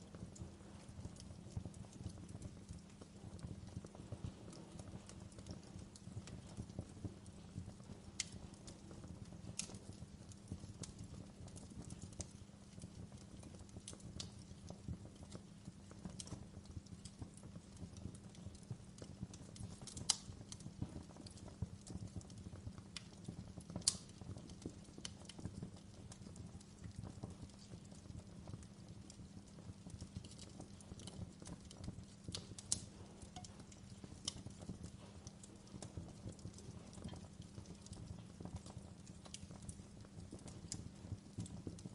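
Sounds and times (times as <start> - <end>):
loud snaps of fire: 0.0 - 41.9
wood fire crackling: 0.0 - 41.9.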